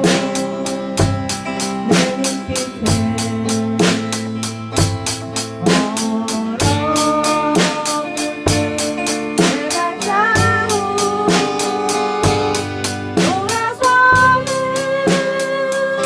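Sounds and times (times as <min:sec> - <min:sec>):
song with drums bass and vocals: 0:00.0 - 0:16.0.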